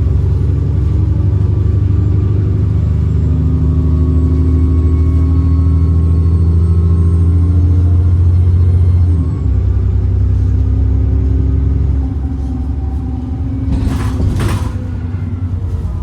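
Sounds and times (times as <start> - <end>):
bus engine under load: 0.0 - 16.0.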